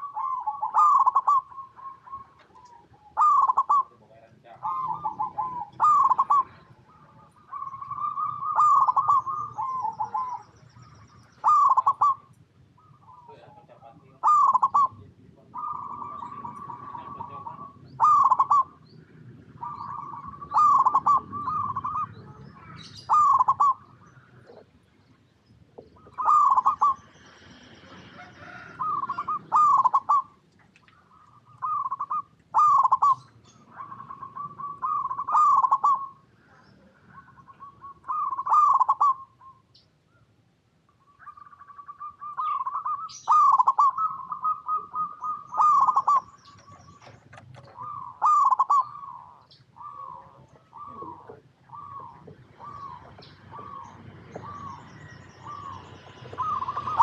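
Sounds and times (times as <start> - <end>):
doves cooing: 0.0 - 40.4, 41.0 - 57.0.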